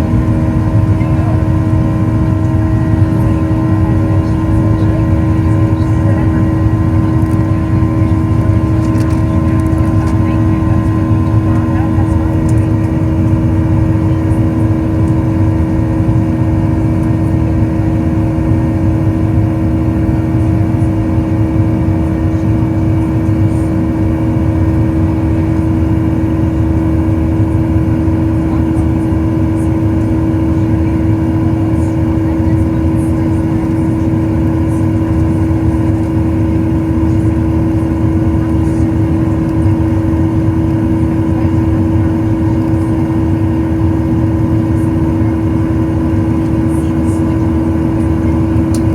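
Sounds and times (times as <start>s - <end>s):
constant whining tones: 0.0s - 17.7s, 26.4s - 48.9s
jet cabin drone: 0.0s - 48.9s.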